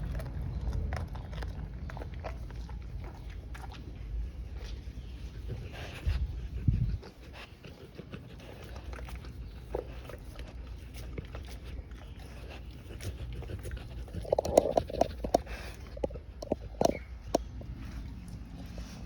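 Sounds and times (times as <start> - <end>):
dog chewing and crunching: 0.0 - 19.0.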